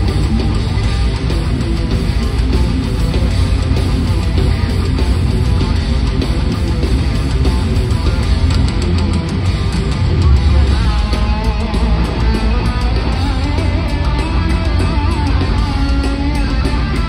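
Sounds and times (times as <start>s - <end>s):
lead guitar bending pitch: 0.0s - 17.0s
metal band playing: 0.0s - 17.0s.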